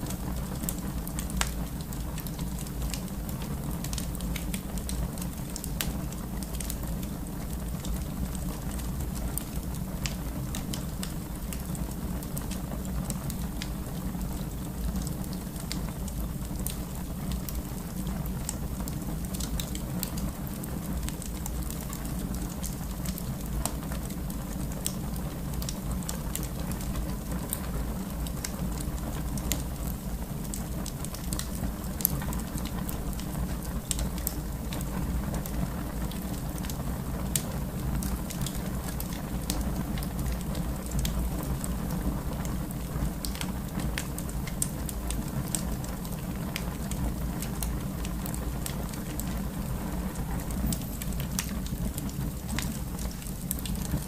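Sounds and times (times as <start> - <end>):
fire crackles and pops: 0.0 - 54.0
fire low rumble: 0.0 - 54.0.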